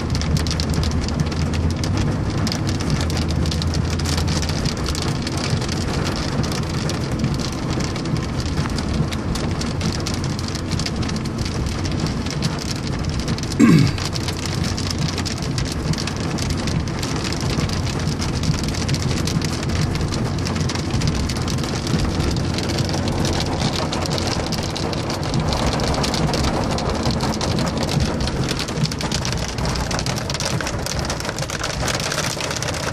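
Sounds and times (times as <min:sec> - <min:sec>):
low road noise: 0:00.0 - 0:32.9
rain on a car roof: 0:00.0 - 0:32.9.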